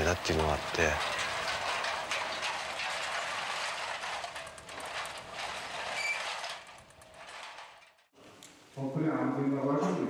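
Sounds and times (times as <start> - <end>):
heavy machinery din: 0.0 - 8.1
metal clanks: 0.0 - 8.2.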